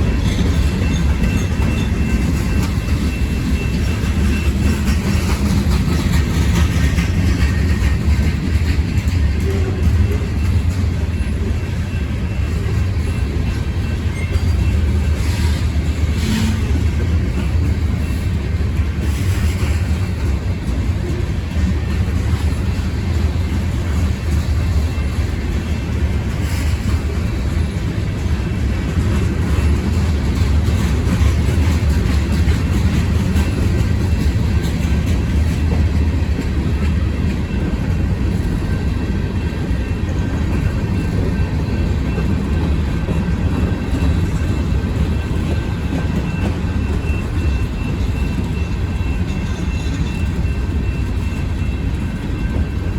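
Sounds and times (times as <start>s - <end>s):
train car clanks: 0.0s - 52.9s
train wheels rumbling on rails: 0.0s - 52.9s.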